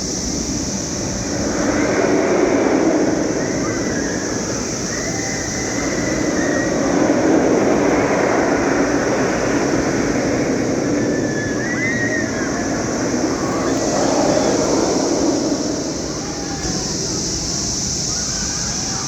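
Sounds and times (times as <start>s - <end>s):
cicadas chorus: 0.0s - 19.0s.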